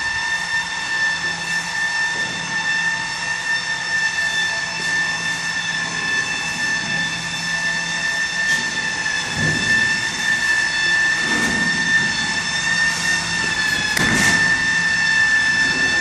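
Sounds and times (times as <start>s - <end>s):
high-pitched machine whine: 0.0s - 16.0s.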